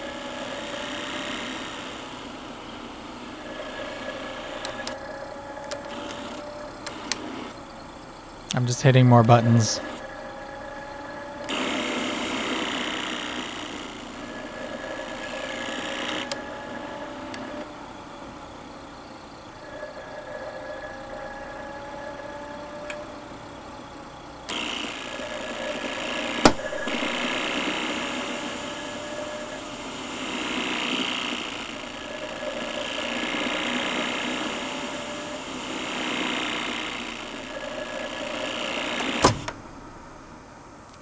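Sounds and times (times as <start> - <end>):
disc player mechanical whir: 0.0 - 41.0.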